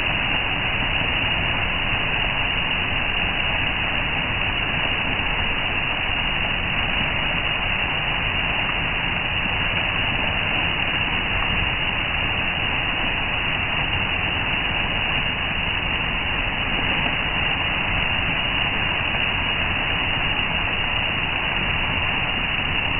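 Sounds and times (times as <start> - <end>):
fountain water splashing: 0.0 - 22.9.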